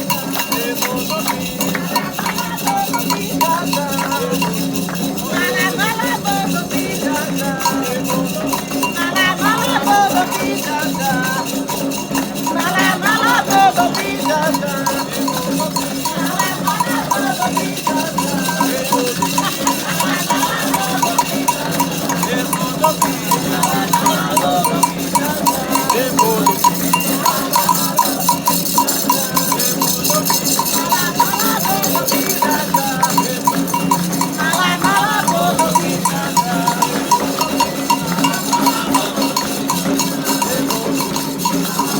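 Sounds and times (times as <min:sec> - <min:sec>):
metal bell: 0:00.0 - 0:41.9
percussion rhythm: 0:00.0 - 0:41.9
shaker rattles: 0:00.0 - 0:41.9
voices singing: 0:00.0 - 0:41.9.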